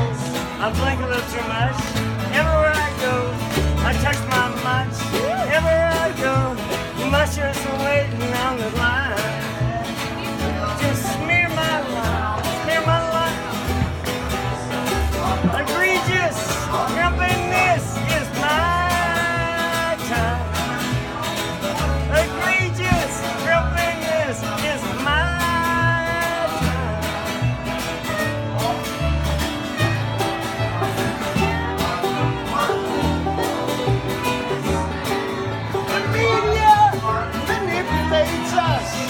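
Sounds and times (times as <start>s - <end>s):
bluegrass string band playing: 0.0s - 39.0s.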